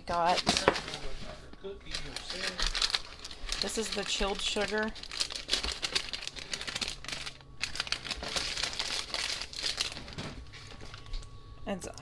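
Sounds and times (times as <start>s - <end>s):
packaging crinkling: 0.1s - 11.4s.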